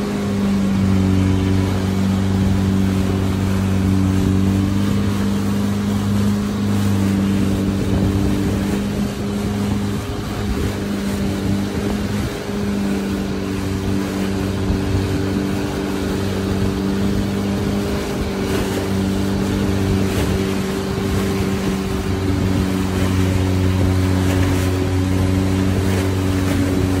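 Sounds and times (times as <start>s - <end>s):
boat engine humming: 0.0s - 27.0s
water rushing along hull: 0.0s - 27.0s
wind: 0.0s - 27.0s.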